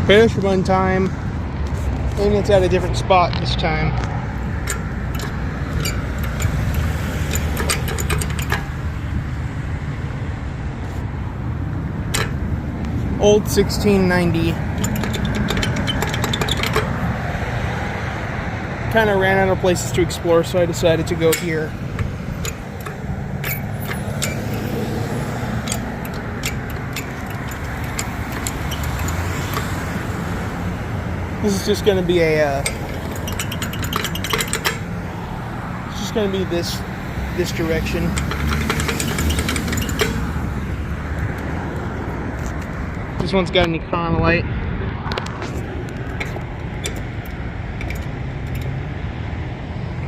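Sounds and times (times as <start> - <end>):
road traffic rumble: 0.0 - 50.0.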